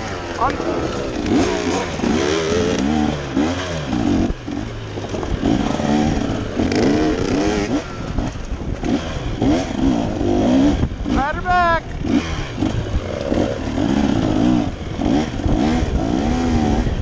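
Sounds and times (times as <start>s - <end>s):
bike rattling: 0.0s - 17.0s
dirt bike engine revving: 0.0s - 17.0s.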